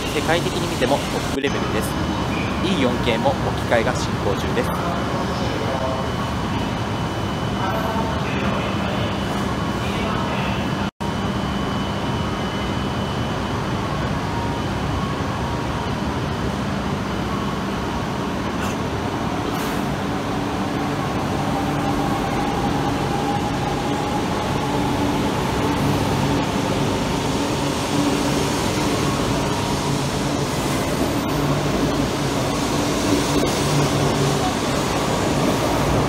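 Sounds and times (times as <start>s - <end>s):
train hum: 0.0s - 36.0s.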